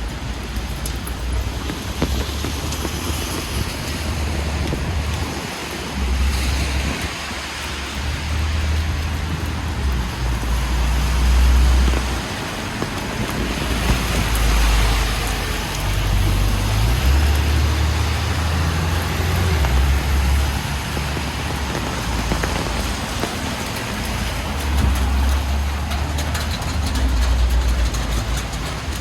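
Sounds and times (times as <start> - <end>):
deep rumble of passing vehicles: 0.0 - 29.0
rain and tyres hissing on wet road: 0.0 - 29.0.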